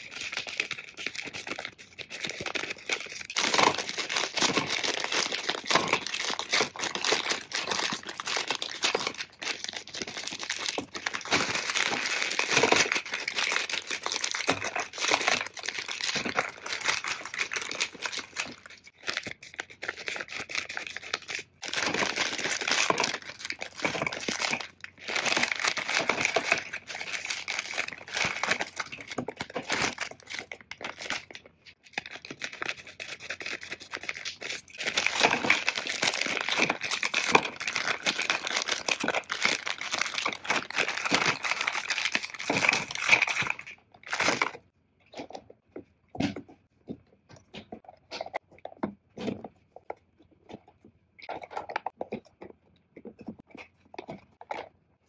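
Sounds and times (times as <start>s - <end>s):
plastic packaging crinkling: 0.0s - 45.3s.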